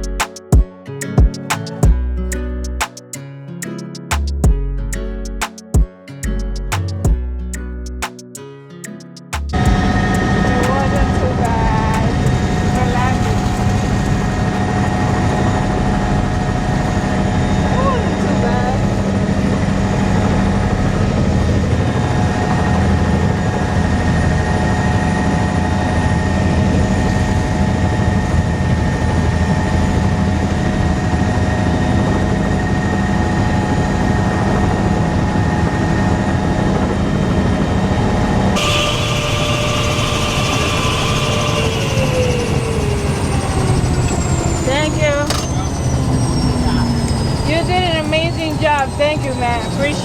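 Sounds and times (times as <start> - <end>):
engine whine falling in pitch: 9.4 - 50.0
helicopter rotor and engine drone: 9.6 - 50.0.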